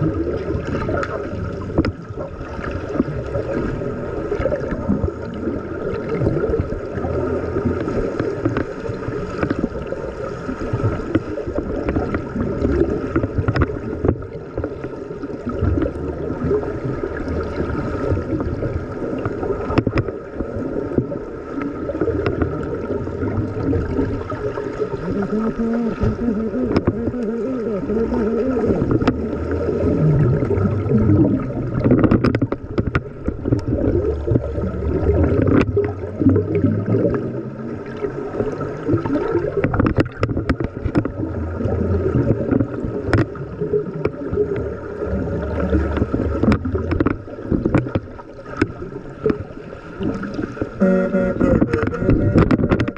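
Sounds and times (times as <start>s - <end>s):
muffled underwater splashing: 0.0s - 52.9s.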